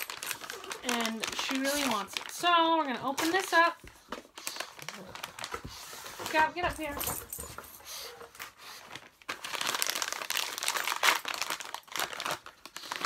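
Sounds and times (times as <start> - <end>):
bag crinkling and rustling: 0.0 - 13.0.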